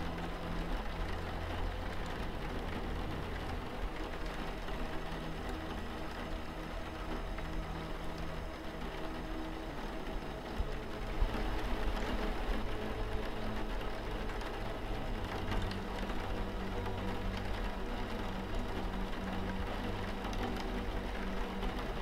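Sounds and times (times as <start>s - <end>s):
rain falling on a window: 0.0s - 22.0s
soft ambient music: 0.0s - 22.0s.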